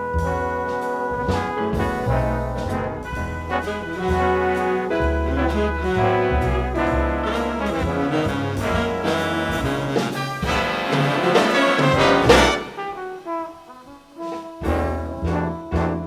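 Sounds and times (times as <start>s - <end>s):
jazz big band playing: 0.0s - 16.0s.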